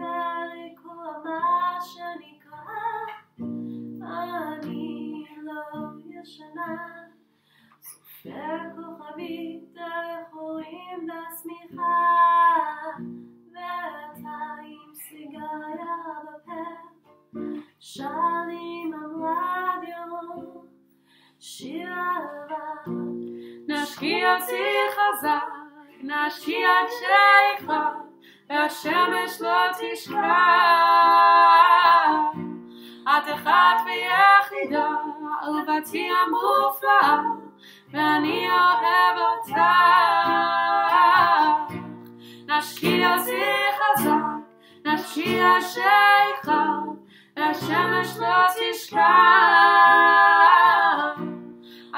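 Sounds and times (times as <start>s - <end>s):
woman singing: 0.0s - 3.4s, 4.0s - 7.2s, 7.8s - 17.0s, 17.8s - 20.7s, 21.4s - 51.9s
acoustic guitar strummed and plucked: 0.0s - 51.9s.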